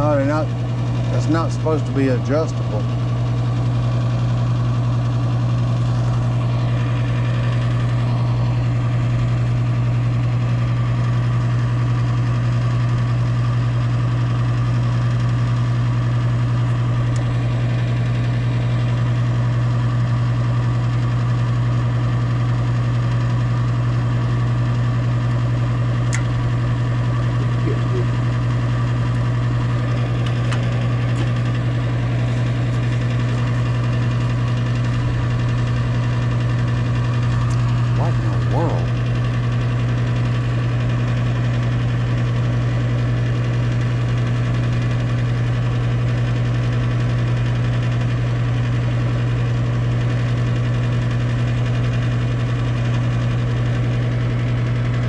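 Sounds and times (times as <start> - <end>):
furnace motor hum: 0.0 - 55.0.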